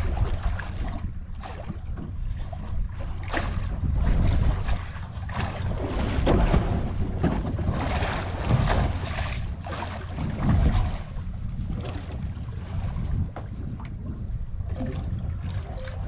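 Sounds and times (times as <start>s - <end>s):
wind buffeting microphone: 0.0s - 15.8s
water splashing against hull: 0.0s - 16.0s.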